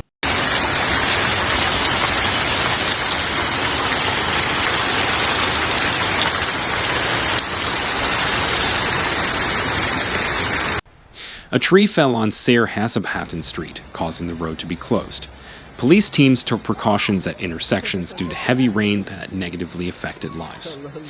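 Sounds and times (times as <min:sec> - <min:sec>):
heavy rain pouring: 0:00.0 - 0:10.8, 0:11.7 - 0:21.0.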